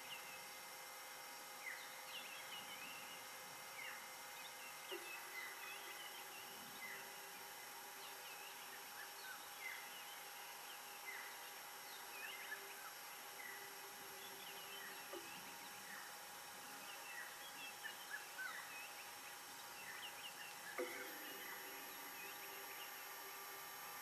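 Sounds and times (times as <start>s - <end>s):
faint hum and hiss: 0.0s - 24.0s.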